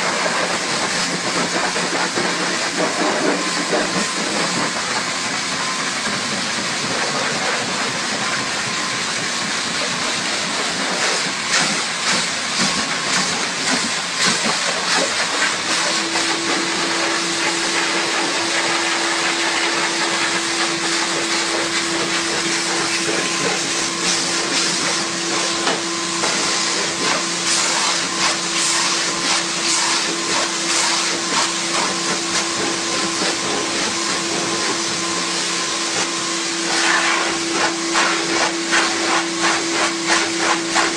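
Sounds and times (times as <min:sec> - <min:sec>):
car wash hissing rush: 0:00.0 - 0:40.9.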